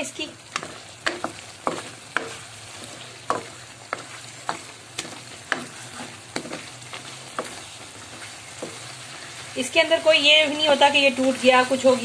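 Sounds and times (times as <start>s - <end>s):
oil sizzling: 0.0s - 12.0s
spatula scraping and knocking wok: 0.4s - 12.0s.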